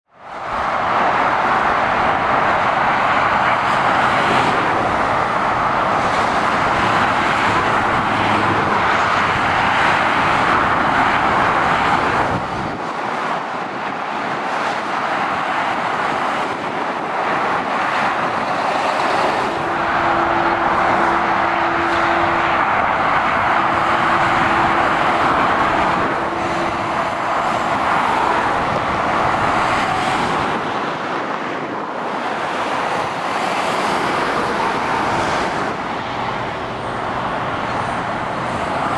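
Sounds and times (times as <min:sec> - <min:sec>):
motorway traffic passing: 0:00.1 - 0:38.9.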